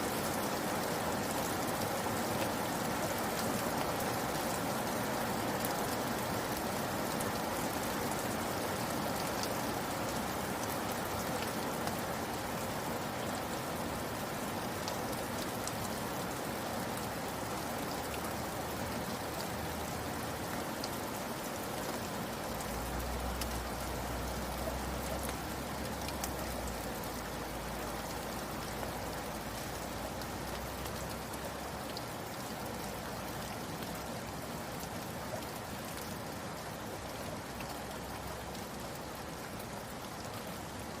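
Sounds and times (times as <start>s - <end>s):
rain drops ticking on surface: 0.0s - 41.0s.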